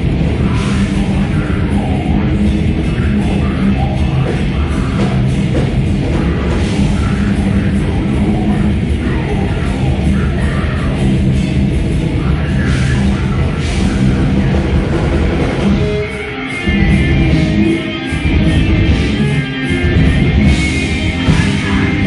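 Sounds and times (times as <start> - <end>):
heavy metal band playing live: 0.0 - 22.0.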